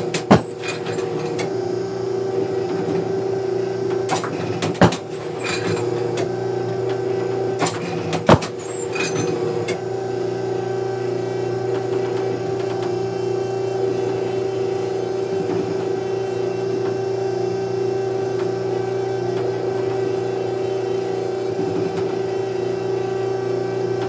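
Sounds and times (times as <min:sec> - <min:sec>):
machine motor hum: 0:00.0 - 0:24.0.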